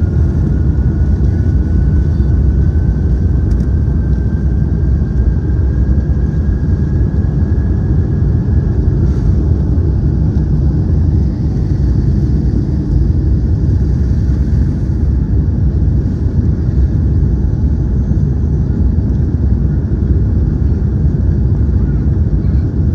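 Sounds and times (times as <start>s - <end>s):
high engine whine: 0.0s - 22.9s
jet engine rumble: 0.0s - 22.9s.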